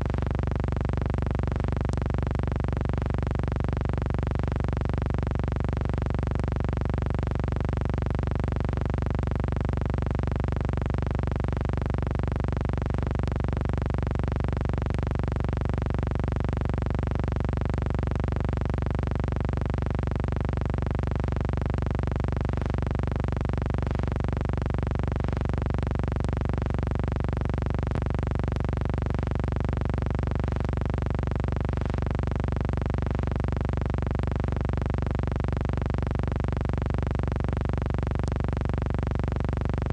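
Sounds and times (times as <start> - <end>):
electronic hum: 0.0 - 39.9.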